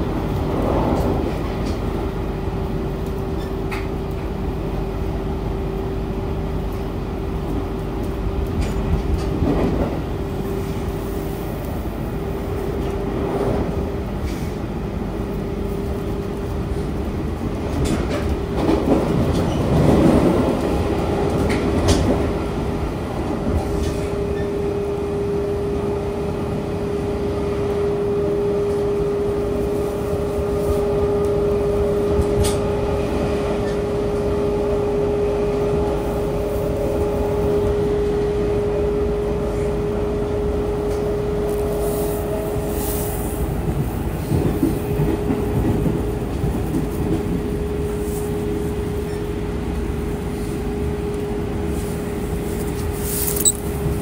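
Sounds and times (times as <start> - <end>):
electric train running rumble: 0.0 - 54.0.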